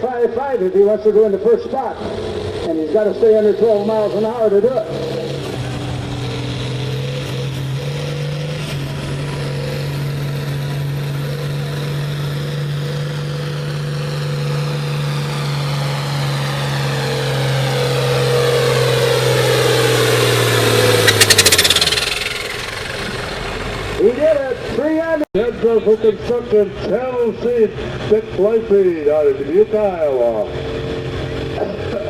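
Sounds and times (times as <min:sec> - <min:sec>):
tractor engine under full load: 0:00.0 - 0:32.0.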